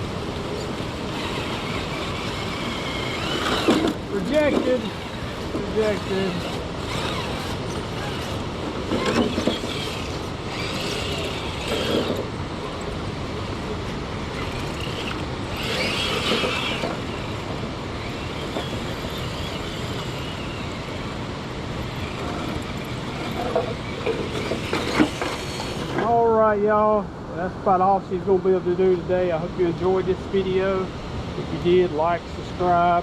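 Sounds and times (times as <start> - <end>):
outdoor background hiss: 0.0 - 33.0.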